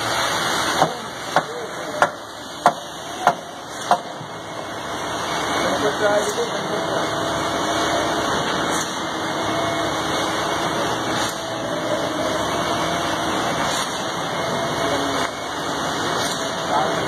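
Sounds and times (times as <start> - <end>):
diesel truck engines running: 0.0 - 17.0.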